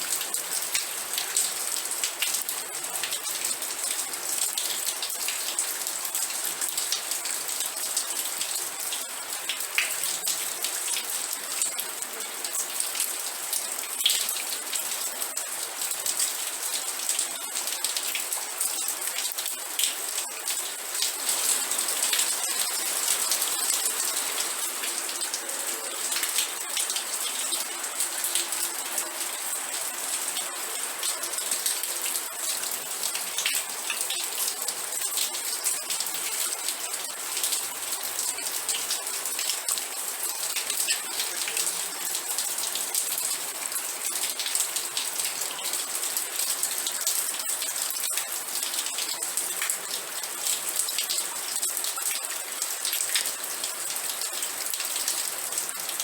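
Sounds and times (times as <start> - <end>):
rain pattering on a surface: 0.0 - 56.0.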